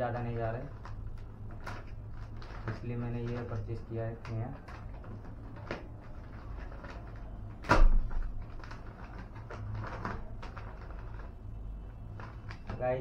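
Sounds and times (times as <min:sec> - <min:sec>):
paper envelope rustling and crinkling: 0:00.0 - 0:13.0.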